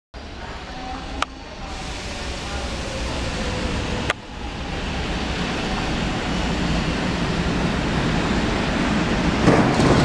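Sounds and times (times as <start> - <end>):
bullet train rushing past: 0.2 - 10.0.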